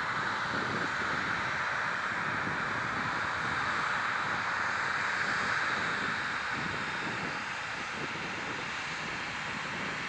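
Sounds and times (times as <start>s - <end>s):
wind on microphone: 0.0s - 4.5s, 5.2s - 10.0s
jet engines rushing hiss: 0.0s - 10.0s.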